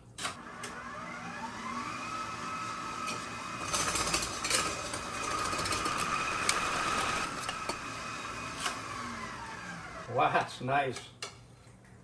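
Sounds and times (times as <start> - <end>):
stand mixer motor whining: 0.4 - 10.1.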